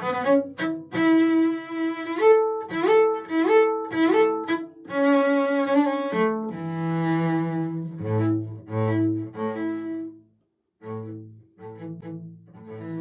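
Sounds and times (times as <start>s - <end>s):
cello bowed melody: 0.0s - 13.0s.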